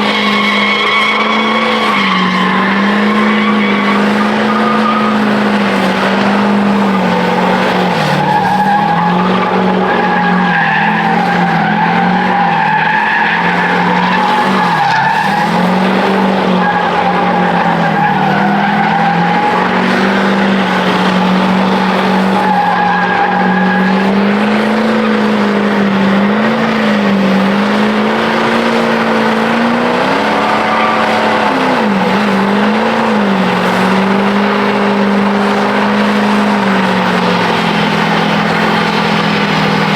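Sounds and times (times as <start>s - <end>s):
spinning tyres squealing: 0.0s - 39.9s
truck engine revving: 0.0s - 39.9s.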